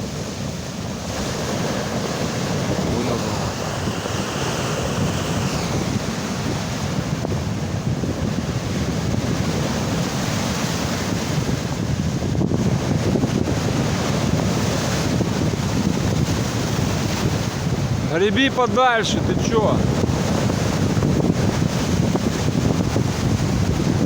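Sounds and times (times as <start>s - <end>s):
sea waves washing: 0.0s - 24.0s
wind buffeting microphone: 0.0s - 24.0s.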